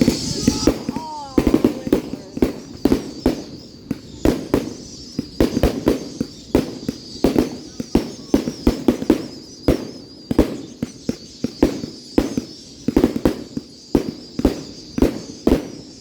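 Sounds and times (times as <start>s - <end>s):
faint high whistle: 0.0s - 16.0s
fireworks bangs: 0.0s - 16.0s.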